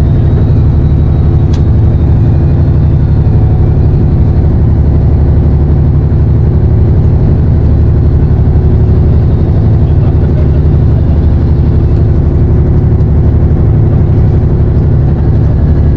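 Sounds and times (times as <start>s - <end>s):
boat engine droning: 0.0s - 15.9s.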